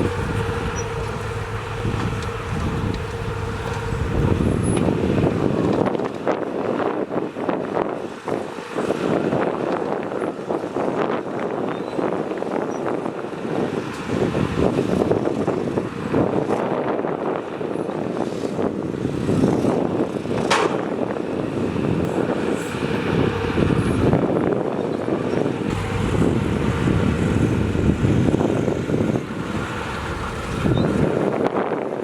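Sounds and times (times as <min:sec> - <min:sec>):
heavy diesel machinery running: 0:00.0 - 0:11.4, 0:12.1 - 0:32.0.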